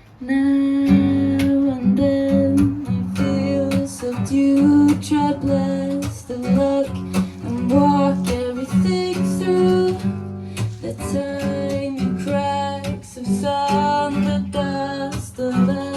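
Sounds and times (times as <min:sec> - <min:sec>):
strummed acoustic guitar: 0:00.0 - 0:15.9.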